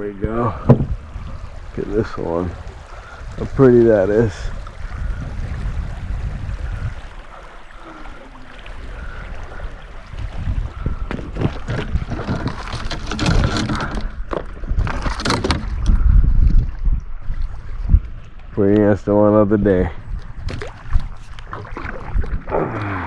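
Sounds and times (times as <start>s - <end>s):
water splashing at a kayak: 0.0s - 23.0s
wind rumbling on microphone: 0.0s - 23.0s.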